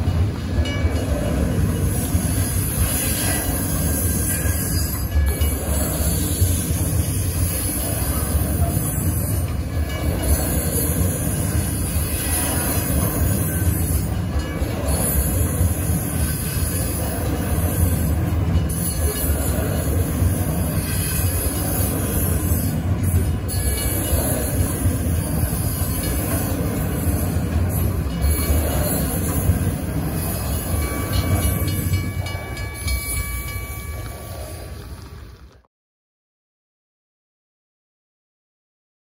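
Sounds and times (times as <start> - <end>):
train wheels rumbling on rail: 0.0 - 35.7.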